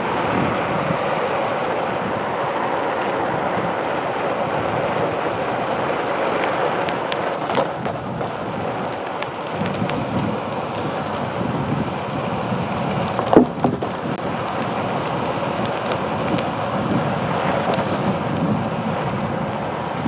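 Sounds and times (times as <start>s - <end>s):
tyre noise on paved path: 0.0s - 20.0s
wind noise: 0.0s - 20.0s.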